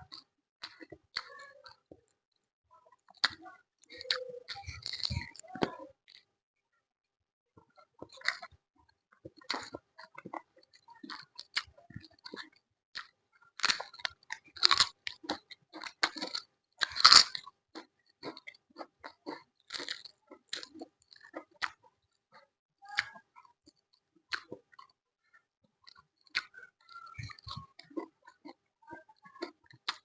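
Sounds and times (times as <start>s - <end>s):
person chewing crisp food: 0.0s - 2.0s, 2.9s - 6.3s, 7.6s - 25.0s, 25.6s - 30.0s.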